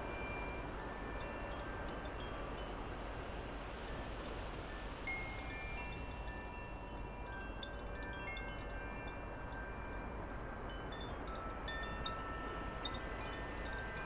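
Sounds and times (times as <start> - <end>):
wind chimes ringing: 0.0 - 14.0
wind hiss: 0.0 - 14.0.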